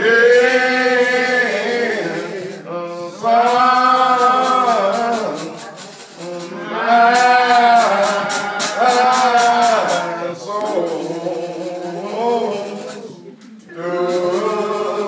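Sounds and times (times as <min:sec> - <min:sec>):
voices singing a hymn: 0:00.0 - 0:15.0.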